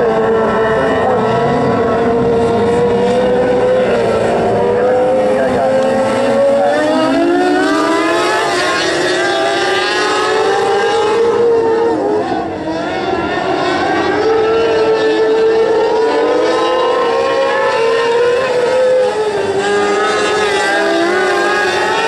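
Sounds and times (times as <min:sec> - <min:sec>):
race car engines at high revs: 0:00.0 - 0:22.0.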